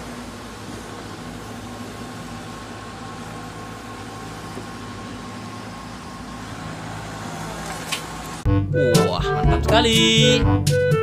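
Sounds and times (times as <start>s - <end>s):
excavator diesel engine humming: 0.0s - 11.0s.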